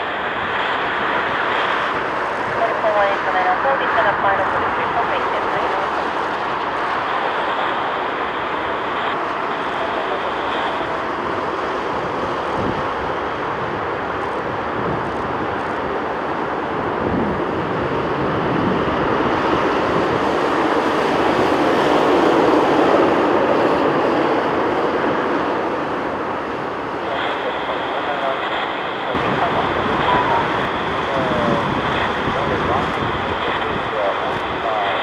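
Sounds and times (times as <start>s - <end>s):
jet airliner engine roar: 0.0s - 35.0s.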